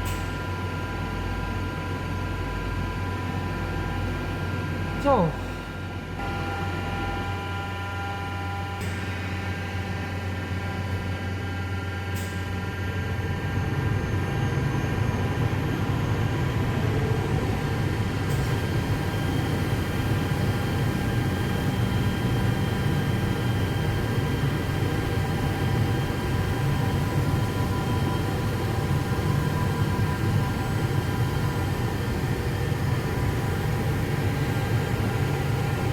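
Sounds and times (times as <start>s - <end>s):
grinding machine humming and whining: 5.6s - 35.9s.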